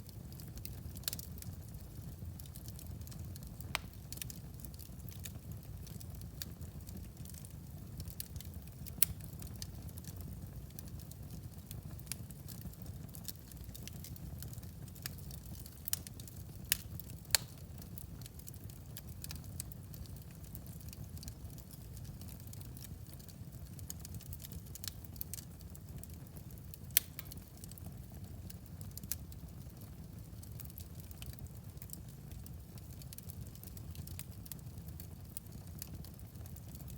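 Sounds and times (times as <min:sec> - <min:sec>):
fire crackling and popping: 0:00.0 - 0:36.9
low rumble of fire: 0:00.0 - 0:36.9.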